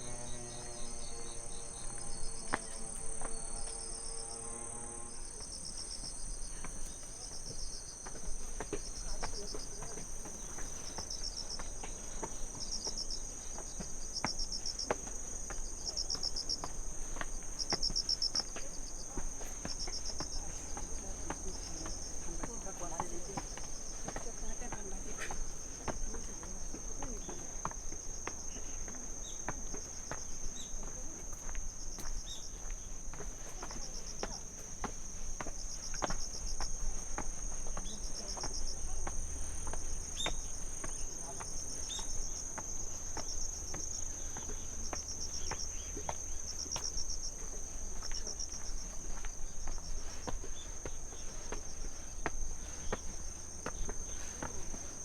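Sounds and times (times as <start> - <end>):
footsteps on trail: 0.0 - 4.1, 5.3 - 55.0
insect chirping in bursts: 0.0 - 8.4, 10.4 - 20.6, 27.6 - 34.3, 35.1 - 55.0
insects trilling chorus: 0.0 - 55.0.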